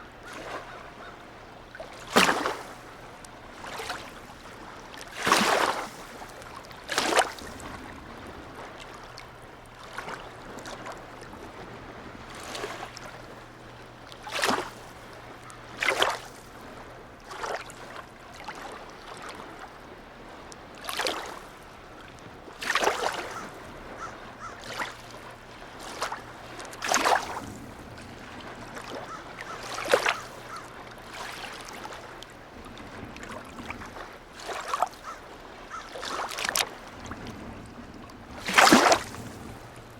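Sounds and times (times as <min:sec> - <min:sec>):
steady wash of water: 0:00.0 - 0:39.9
waves lapping and slapping: 0:00.0 - 0:39.9.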